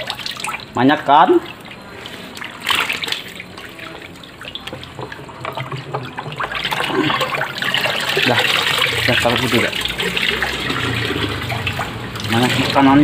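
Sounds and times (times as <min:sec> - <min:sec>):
water splashing in plastic barrel: 0:00.0 - 0:13.0.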